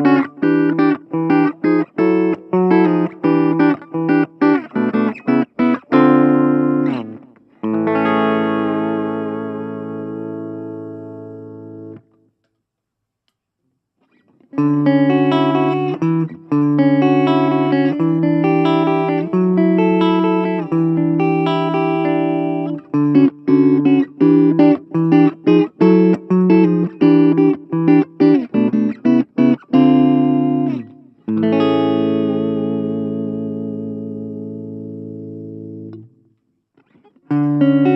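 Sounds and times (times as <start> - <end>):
clean electric guitar chords: 0.0 - 12.1, 14.5 - 36.2, 36.9 - 37.9.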